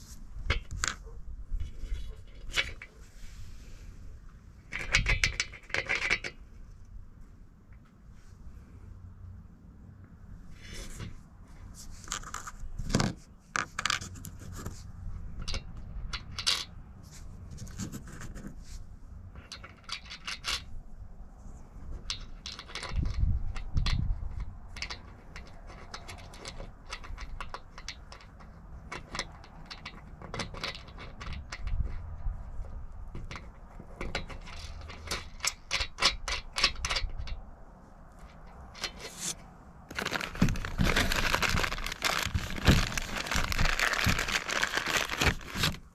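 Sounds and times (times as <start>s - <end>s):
small metal clicks and scrapes: 0.0s - 3.4s, 4.6s - 7.0s, 10.5s - 45.9s
rustle: 0.0s - 9.6s, 10.3s - 45.9s.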